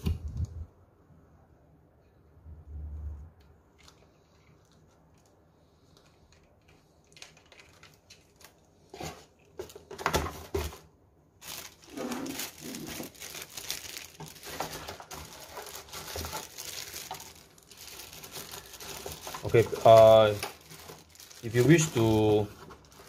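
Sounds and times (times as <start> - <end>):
plastic bag rustling: 3.7 - 23.0.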